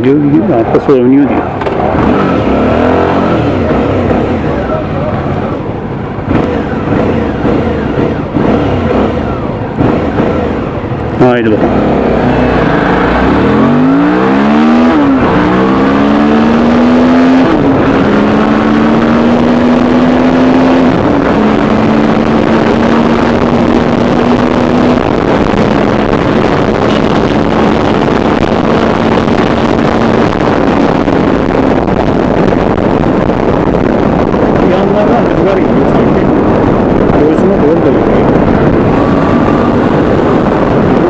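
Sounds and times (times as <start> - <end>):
motorcycle engine accelerating: 0.0 - 41.0
wind and road rush: 0.0 - 41.0.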